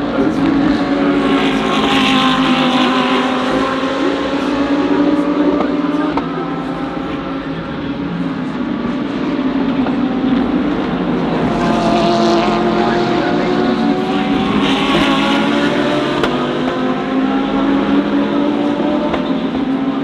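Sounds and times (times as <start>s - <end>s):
race car engines at speed: 0.0s - 20.0s.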